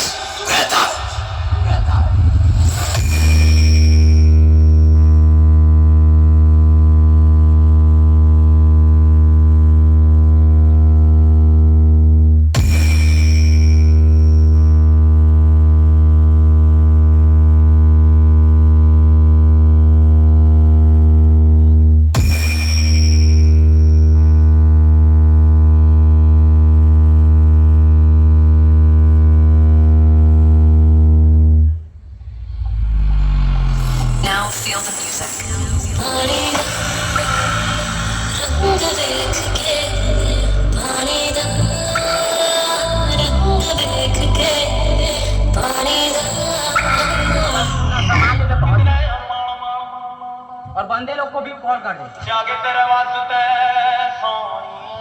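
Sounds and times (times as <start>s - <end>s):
low rumble: 0.0s - 42.2s, 42.8s - 49.3s
loud low bass tone: 1.0s - 49.3s.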